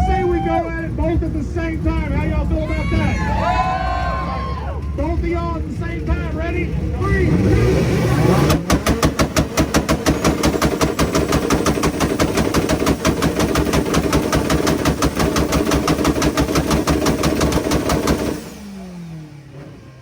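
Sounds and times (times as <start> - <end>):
car engines revving down: 0.0 - 20.0
rapid exhaust bangs: 0.2 - 20.0.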